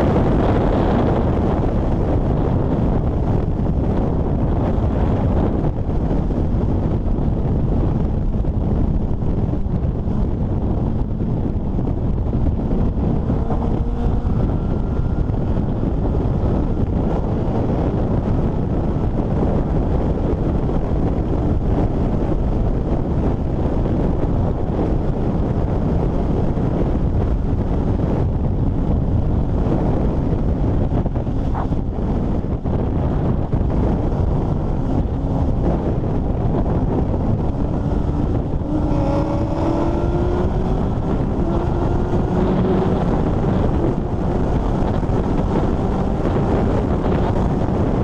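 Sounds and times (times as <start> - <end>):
heavy wind rush on microphone: 0.0 - 48.0.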